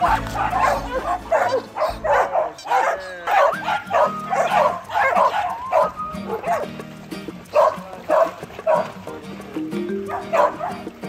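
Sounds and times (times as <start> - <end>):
dogs barking and yipping: 0.0 - 9.2, 9.9 - 11.0
background music: 0.0 - 11.0.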